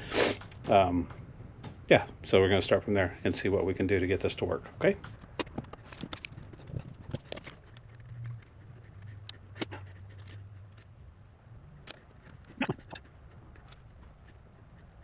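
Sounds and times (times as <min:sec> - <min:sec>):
faint low hum: 0:00.4 - 0:15.0.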